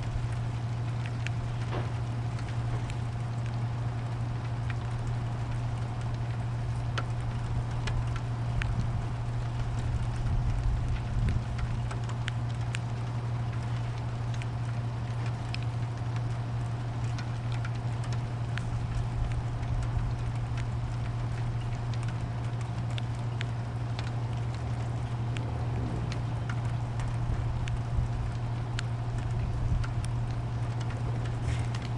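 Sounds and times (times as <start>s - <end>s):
rain falling: 0.0s - 31.9s
sharp drips: 0.0s - 31.9s
steady low hum: 0.0s - 31.9s.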